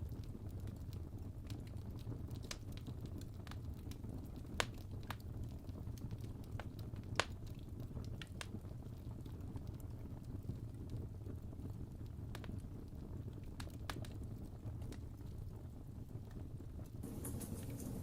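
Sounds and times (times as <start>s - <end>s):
campfire flames rumbling: 0.0s - 18.0s
fire crackling and popping: 0.0s - 18.0s.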